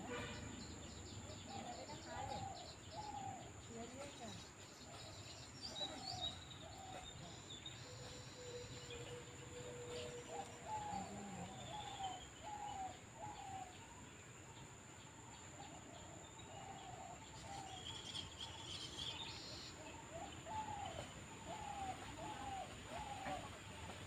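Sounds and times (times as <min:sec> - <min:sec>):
birds calling: 0:00.0 - 0:14.0, 0:15.6 - 0:24.0.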